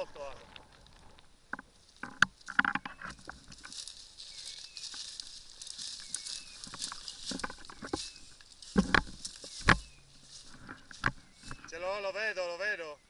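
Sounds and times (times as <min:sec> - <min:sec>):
leaves and twigs rustling: 0:00.0 - 0:12.1
twigs snapping: 0:00.4 - 0:11.7.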